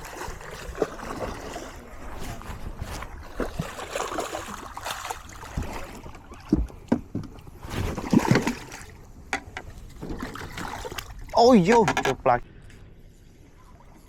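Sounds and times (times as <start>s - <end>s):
water lapping and splashing: 0.0s - 14.0s.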